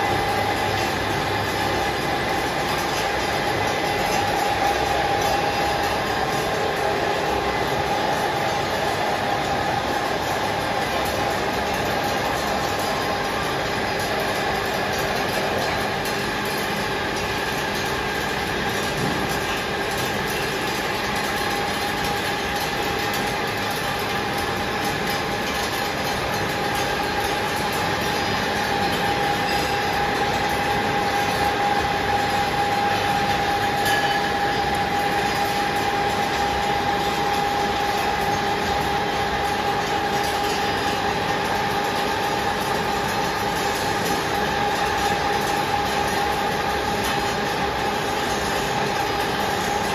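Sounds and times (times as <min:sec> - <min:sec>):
high machine whine: 0:00.0 - 0:49.9.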